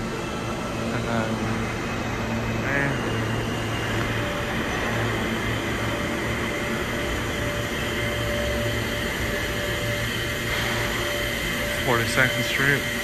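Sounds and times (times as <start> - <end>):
faint whine: 0.0 - 13.0
subway platform hum and rush: 0.0 - 13.0.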